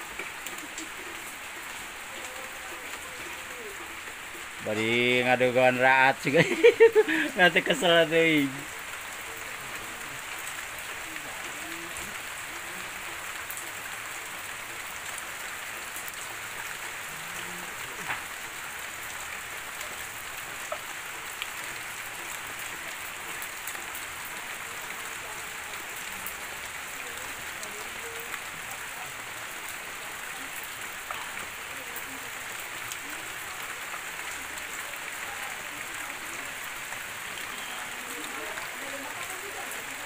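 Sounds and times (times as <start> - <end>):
rain on a corrugated roof: 0.0 - 40.0.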